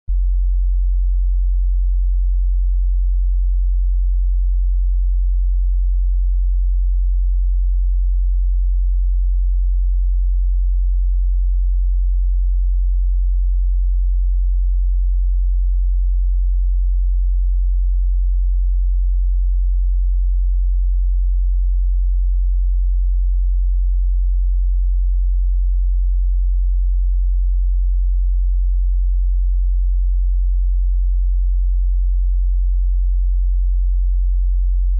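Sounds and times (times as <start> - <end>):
deep sine-wave test tone: 0.0 - 34.9.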